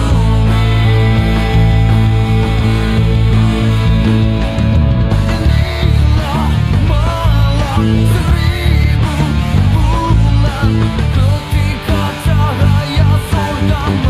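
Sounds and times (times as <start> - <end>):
electric bass fingerstyle: 0.0 - 14.0
rock band with singing: 0.0 - 14.0.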